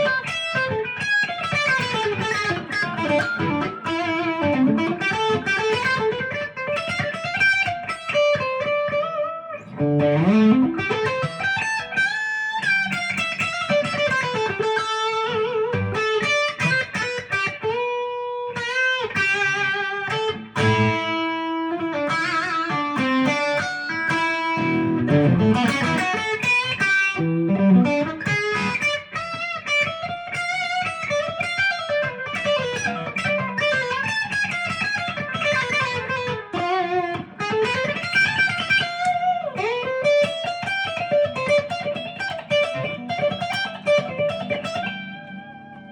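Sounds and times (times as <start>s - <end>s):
electric guitar lead lines: 0.0s - 45.9s.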